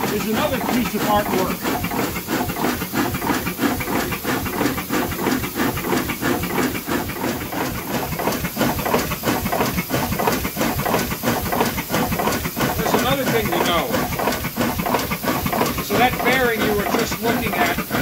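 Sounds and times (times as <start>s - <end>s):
steam engine beating: 0.0s - 18.0s
steam hissing: 0.0s - 18.0s.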